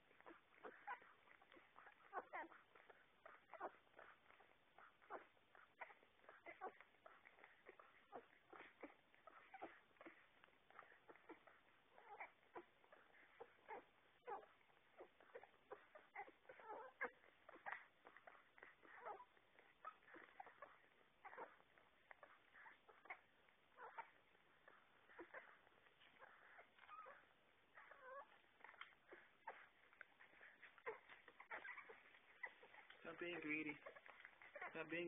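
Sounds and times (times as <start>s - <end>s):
puppies squeaking and suckling: 0.0s - 35.0s.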